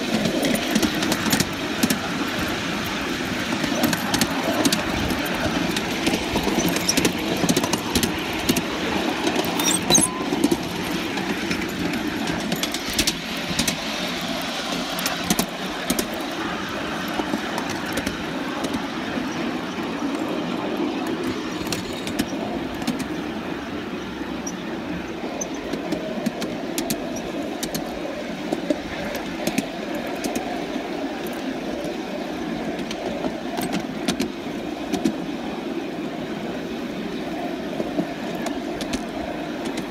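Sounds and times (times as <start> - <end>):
wheels rattling on rails: 0.0 - 39.9.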